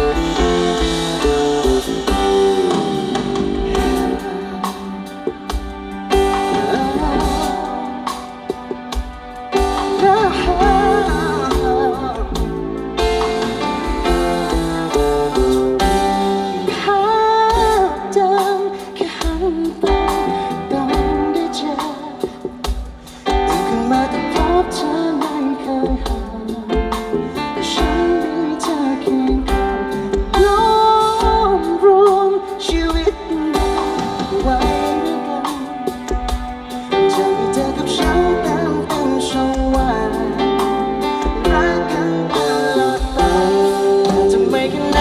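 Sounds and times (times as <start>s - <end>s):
live band playing soul song: 0.0s - 45.0s
person singing: 0.0s - 45.0s.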